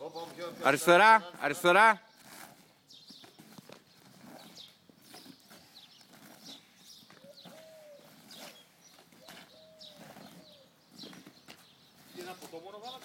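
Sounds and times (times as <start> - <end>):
hands and boots scuffing concrete: 2.2 - 13.0.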